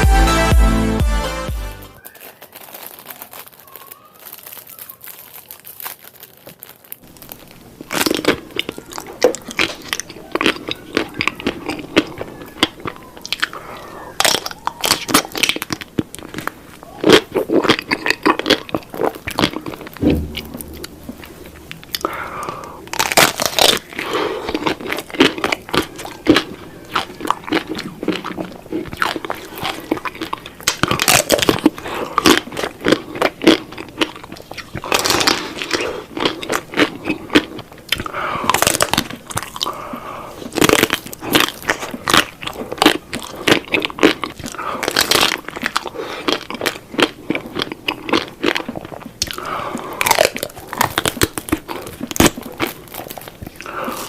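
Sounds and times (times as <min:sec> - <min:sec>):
person chewing crunchy food: 0:02.0 - 0:54.0.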